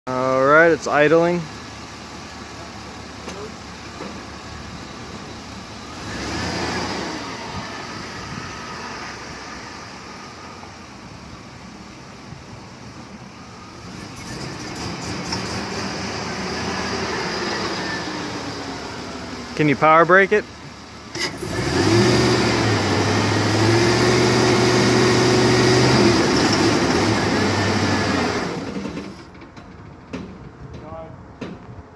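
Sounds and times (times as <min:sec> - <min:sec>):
pickup engine idling and revving: 0:00.1 - 0:31.9.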